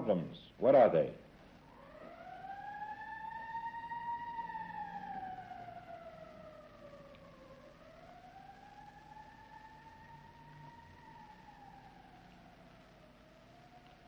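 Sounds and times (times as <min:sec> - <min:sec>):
faint siren wailing: 0:00.0 - 0:14.0.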